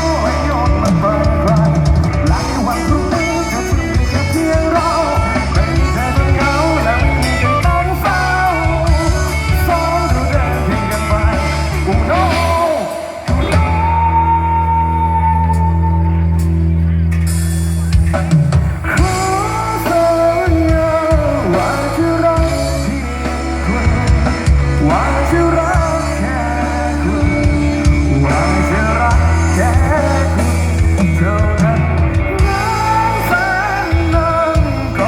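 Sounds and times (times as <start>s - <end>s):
person singing: 0.0s - 16.5s, 18.8s - 35.0s
band playing pop-rock song: 0.0s - 35.0s
steady bass line: 0.0s - 35.0s.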